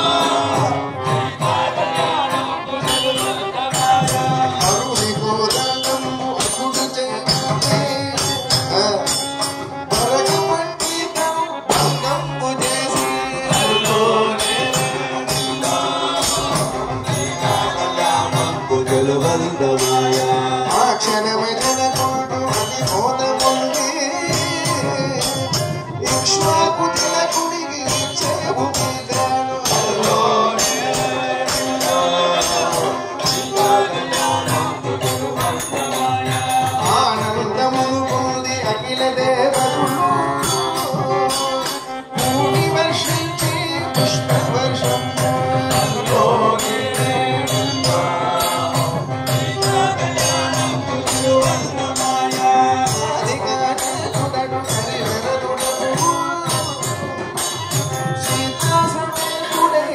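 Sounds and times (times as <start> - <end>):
group singing devotional song: 0.0 - 8.3, 11.7 - 41.4, 42.2 - 57.2
jingling percussion beat: 0.0 - 59.9.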